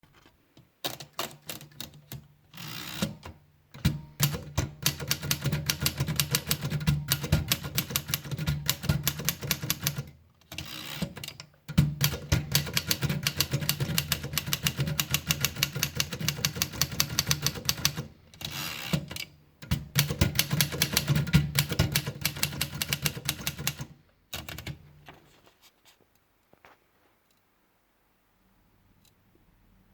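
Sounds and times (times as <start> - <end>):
manual typewriter typing: 0.8 - 24.9.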